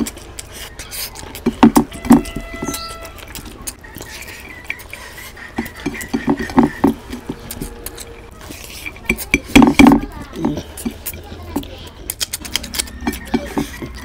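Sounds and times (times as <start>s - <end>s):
eating sounds: 0.0s - 14.0s.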